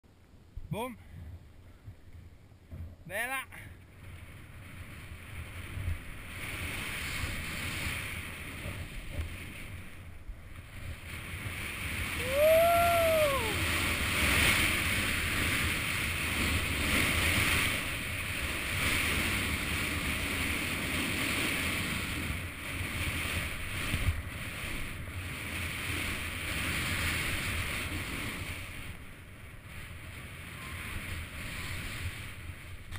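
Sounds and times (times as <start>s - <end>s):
wind rushing over microphone: 0.5s - 32.9s
skis running through snow: 4.2s - 32.9s.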